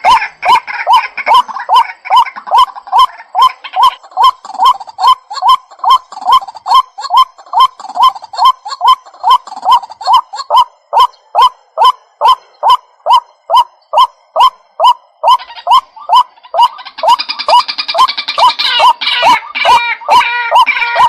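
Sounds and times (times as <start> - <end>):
waterhen calling: 0.0 - 21.0.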